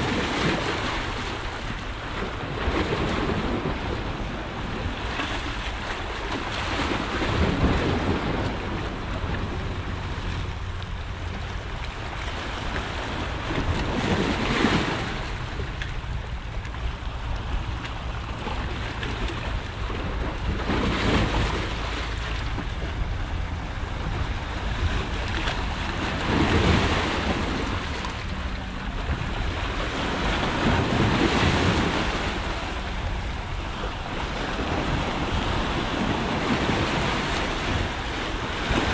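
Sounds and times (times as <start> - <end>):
waves breaking against rocks: 0.0 - 38.9
wind rumble on microphone: 0.0 - 38.9.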